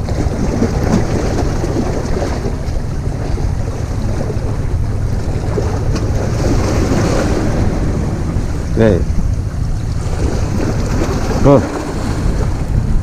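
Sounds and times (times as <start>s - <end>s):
sea waves breaking on rocks: 0.0s - 13.0s
wind noise on microphone: 0.0s - 13.0s.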